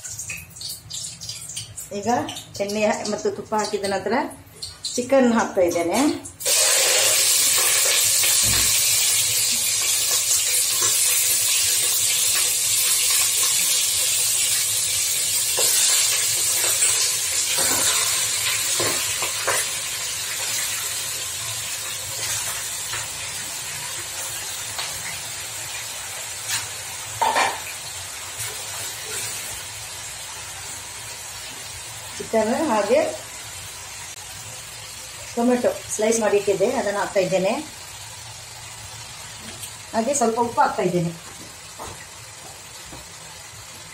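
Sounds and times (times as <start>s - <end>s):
chicken sizzling in hot oil: 0.0s - 43.9s.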